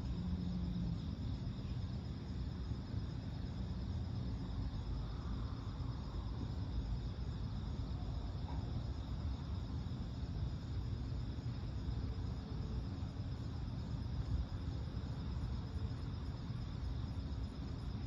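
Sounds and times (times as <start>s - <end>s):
constant low rumble: 0.0s - 18.0s
crickets chirping: 0.0s - 18.0s.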